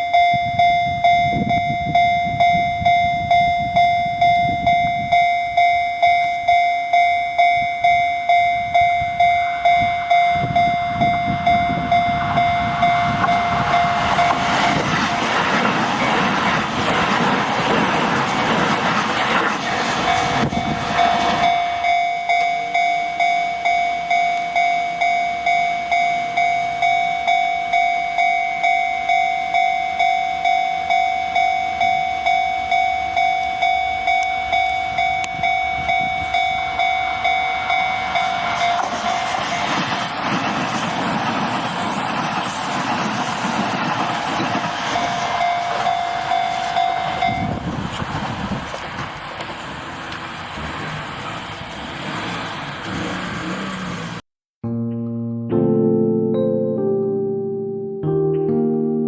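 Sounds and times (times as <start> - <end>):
level crossing warning bell: 0.0 - 41.6, 43.0 - 50.5
train passing: 0.0 - 54.2.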